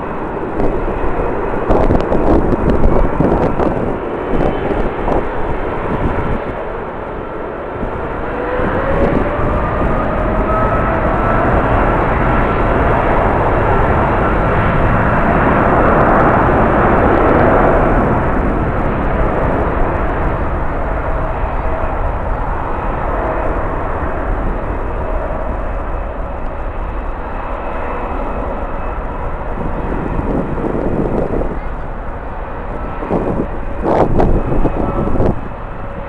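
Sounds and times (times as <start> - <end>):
jet airliner passing: 0.0 - 36.0
wind rumbling on microphone: 0.0 - 36.0.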